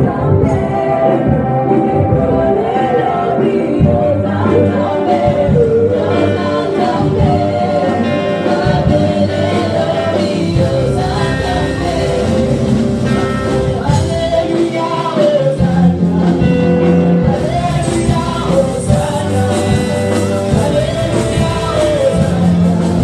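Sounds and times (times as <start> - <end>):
group singing gospel song: 0.0 - 23.0
guitar: 0.0 - 23.0
keyboard: 0.0 - 23.0.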